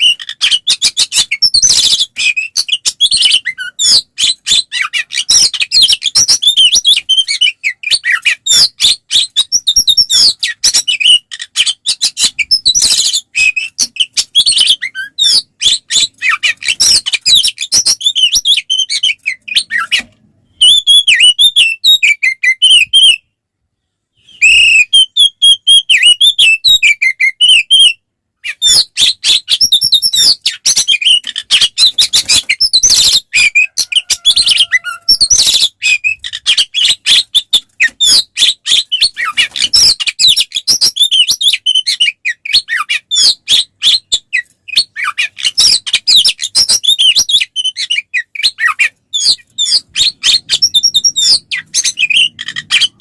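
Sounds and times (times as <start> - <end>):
bird chattering and whistling: 0.0 - 23.2, 24.2 - 53.0.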